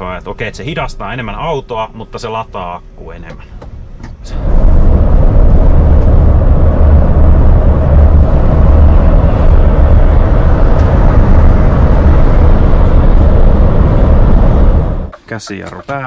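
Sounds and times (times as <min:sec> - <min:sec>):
road and tyre rumble: 0:00.8 - 0:15.2.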